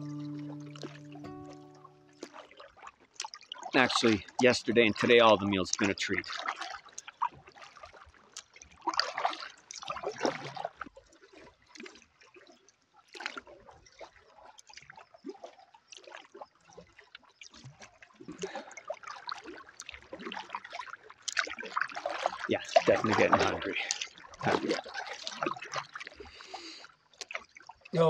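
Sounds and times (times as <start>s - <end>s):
canoe paddle strokes in water: 0.0s - 28.0s
water splashing and trickling: 0.0s - 28.0s.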